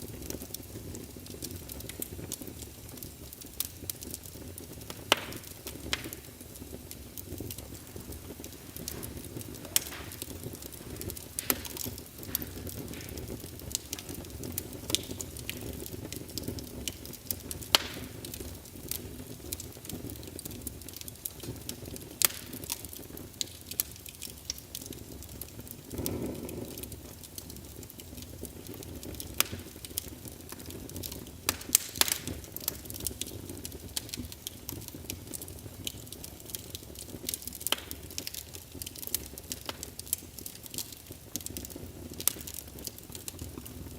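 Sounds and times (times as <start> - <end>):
fire crackling and popping: 0.0 - 43.9
low rush of flames: 0.0 - 43.9.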